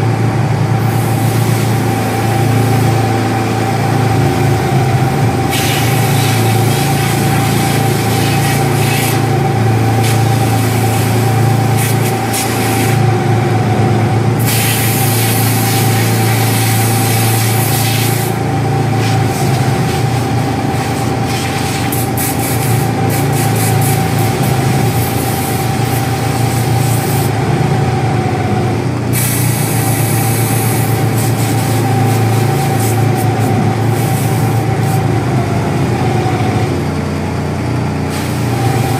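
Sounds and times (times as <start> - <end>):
pump humming and whining: 0.0 - 38.9
foam nozzle hissing: 0.8 - 13.1, 14.4 - 27.4, 29.1 - 35.0, 38.1 - 38.9.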